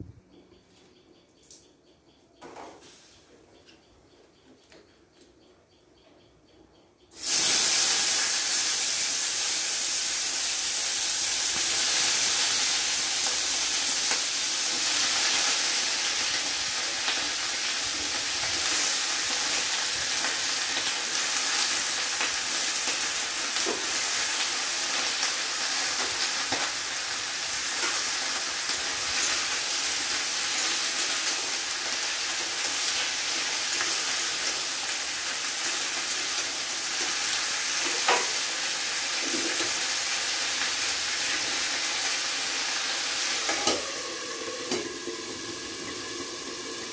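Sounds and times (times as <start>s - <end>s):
vegetables sizzling in oil: 7.1s - 46.9s.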